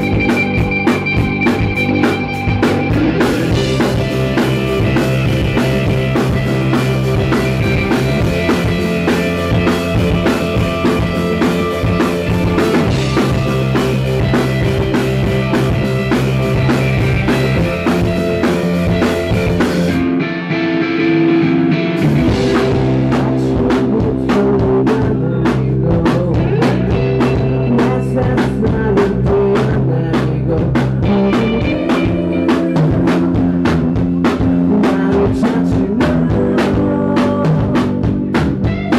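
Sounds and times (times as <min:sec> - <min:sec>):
distorted live rock band: 0:00.0 - 0:38.9.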